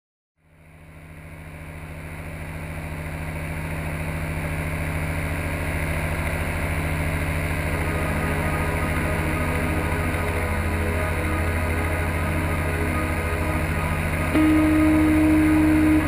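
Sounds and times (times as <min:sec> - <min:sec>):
paramotor engine drone: 0:00.4 - 0:16.0.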